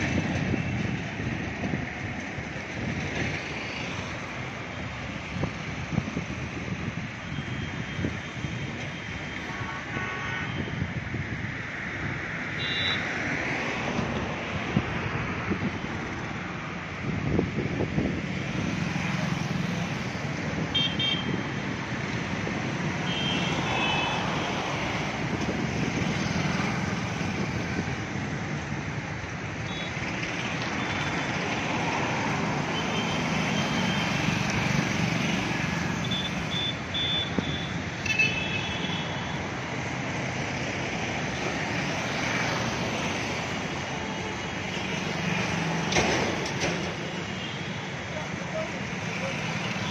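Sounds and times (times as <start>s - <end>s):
city road traffic: 0.0s - 49.9s.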